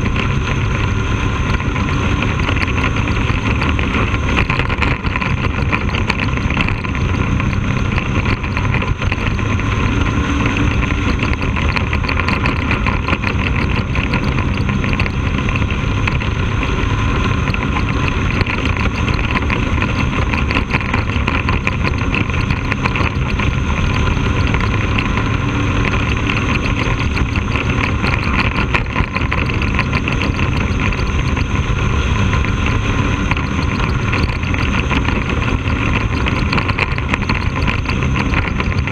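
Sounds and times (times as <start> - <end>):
race car engine at speed: 0.0 - 38.9.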